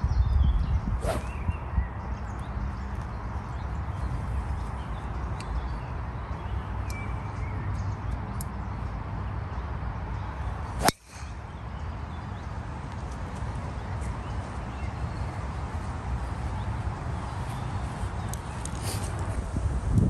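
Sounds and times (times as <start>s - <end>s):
faint birdsong chirping: 0.0s - 20.0s
wind rumbling on microphone: 0.0s - 20.0s.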